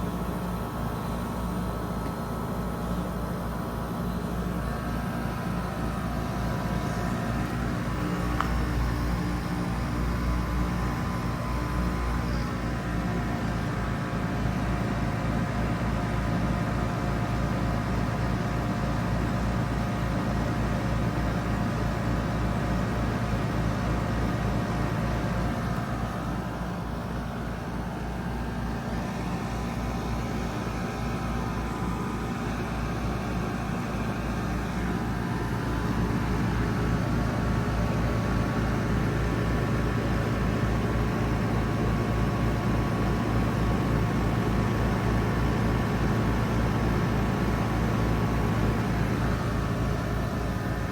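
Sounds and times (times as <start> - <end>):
heat pump humming: 0.0 - 50.9.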